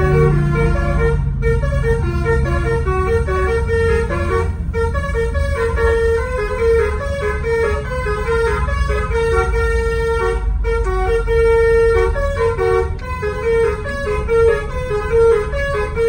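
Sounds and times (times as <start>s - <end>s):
bus engine running: 0.0s - 16.0s
bus horn playing a tune: 0.0s - 16.0s.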